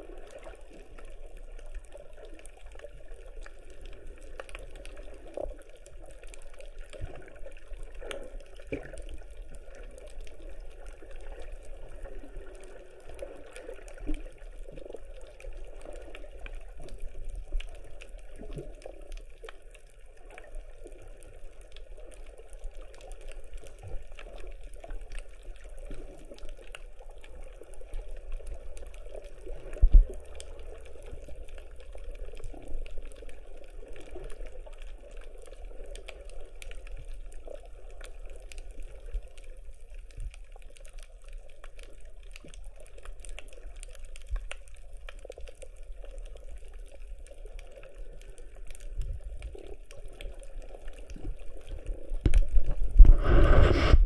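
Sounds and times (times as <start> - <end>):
small underwater clicks and crackles: 0.0 - 54.0
underwater low rumble: 0.0 - 54.0.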